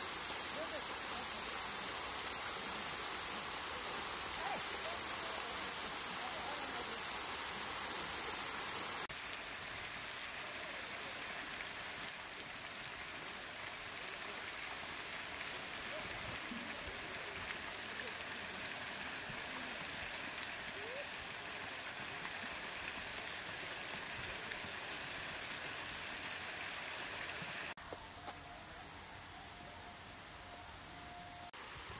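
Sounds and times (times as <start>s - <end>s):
steady outdoor hiss: 0.0s - 31.9s.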